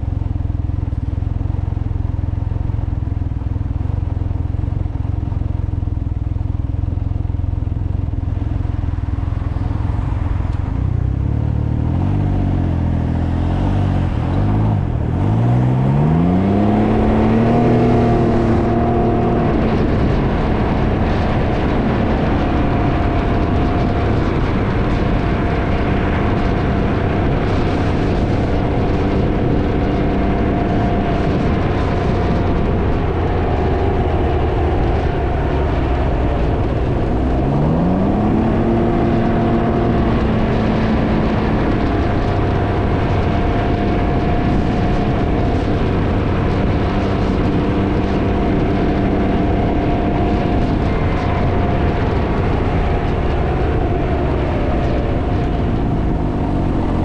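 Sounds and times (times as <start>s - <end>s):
motorcycle engine accelerating: 0.0s - 57.0s
wind buffeting microphone: 8.0s - 57.0s.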